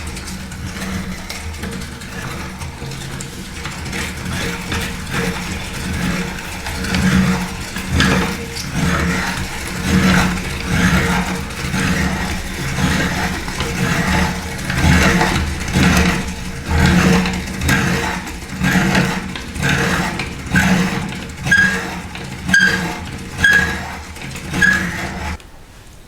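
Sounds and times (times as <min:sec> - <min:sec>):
food crunching in grinder: 0:00.0 - 0:25.4
meat grinder motor running: 0:00.0 - 0:25.4.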